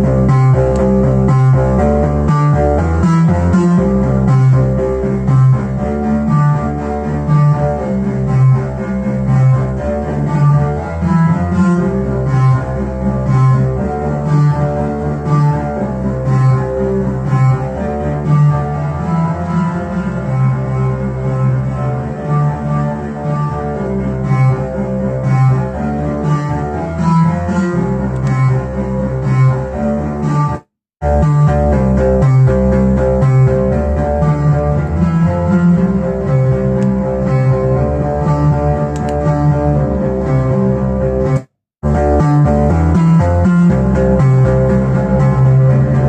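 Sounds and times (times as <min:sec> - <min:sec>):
higher synthesizer notes sequencing: 0:00.0 - 0:46.0
synthesizer bass notes: 0:00.0 - 0:46.0.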